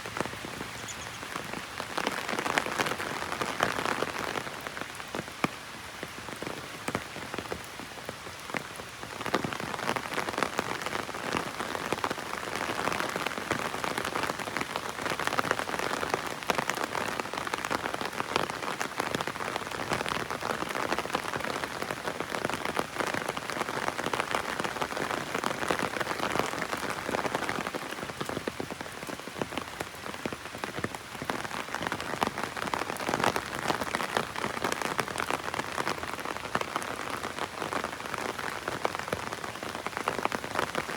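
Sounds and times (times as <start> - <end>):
heavy rain on an umbrella: 0.0 - 40.9.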